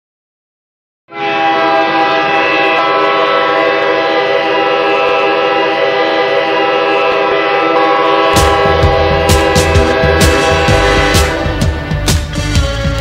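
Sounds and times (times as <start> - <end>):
goal horn blast: 1.1 - 13.0.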